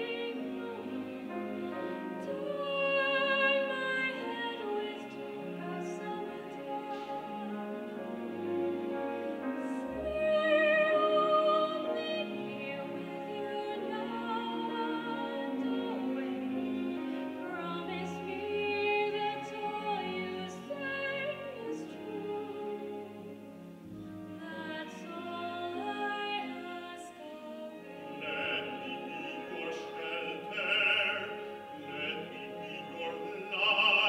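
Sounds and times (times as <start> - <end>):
operatic singing with vibrato: 0.0 - 8.9, 9.7 - 34.0
grand piano: 0.0 - 34.0.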